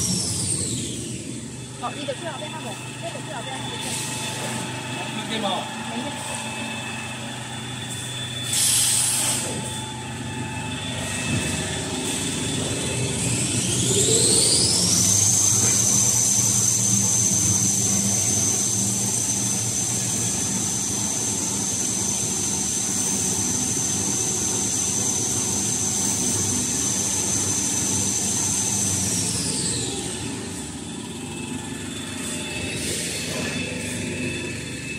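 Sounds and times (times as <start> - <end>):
low machine hum: 0.0 - 8.6, 9.3 - 34.9
machine motor whine: 0.0 - 34.9.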